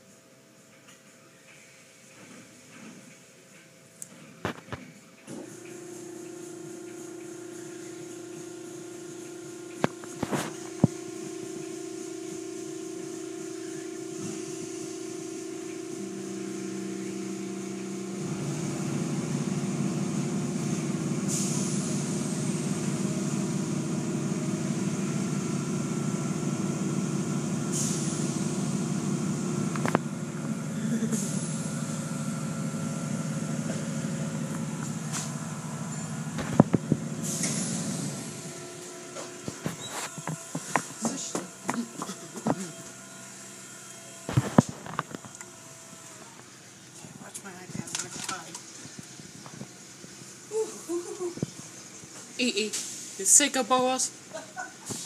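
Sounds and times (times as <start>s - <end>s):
car wash motor hum: 3.8s - 55.0s.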